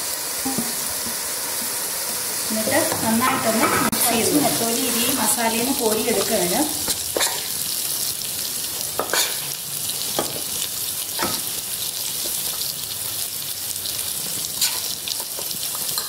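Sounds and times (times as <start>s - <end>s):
masala sizzling in a pot: 0.0s - 16.0s.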